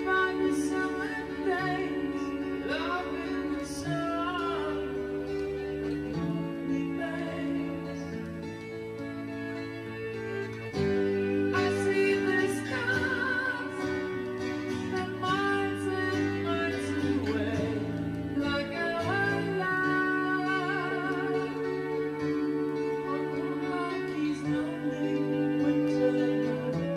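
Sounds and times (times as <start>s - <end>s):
woman singing with vibrato: 0.0s - 8.4s, 11.2s - 26.9s
guitar: 0.0s - 26.9s.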